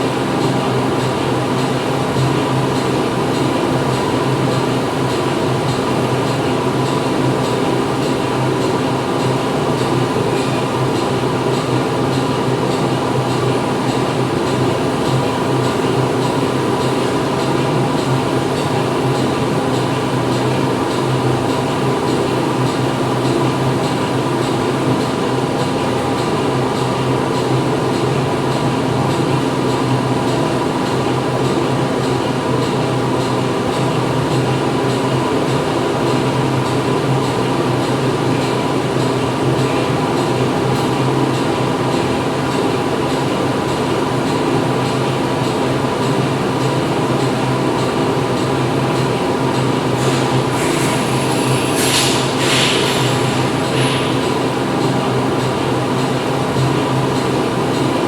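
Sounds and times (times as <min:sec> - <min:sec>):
factory machinery drone: 0:00.0 - 0:58.0.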